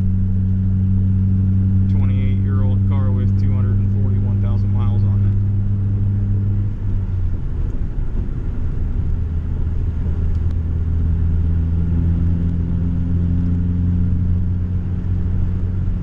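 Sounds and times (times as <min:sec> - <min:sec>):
car exhaust drone in cabin: 0:00.0 - 0:16.0.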